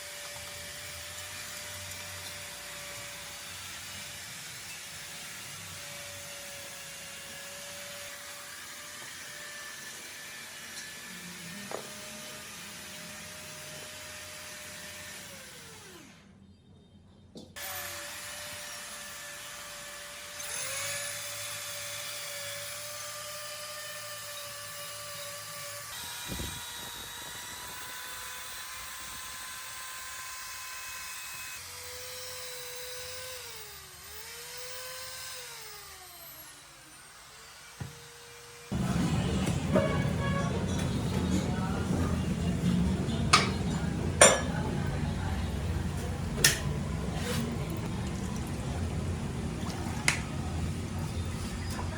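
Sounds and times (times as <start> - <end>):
power tool motor whining: 0.0 - 16.3, 17.6 - 43.8.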